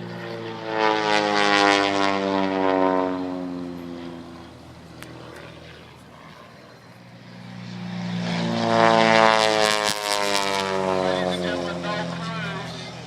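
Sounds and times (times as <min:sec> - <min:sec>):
propeller plane passing overhead: 0:00.0 - 0:13.0.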